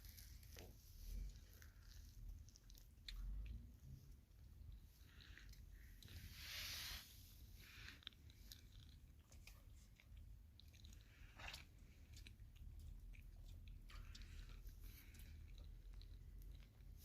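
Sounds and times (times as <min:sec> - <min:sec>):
person chewing food: 0:00.0 - 0:06.6, 0:07.2 - 0:17.0.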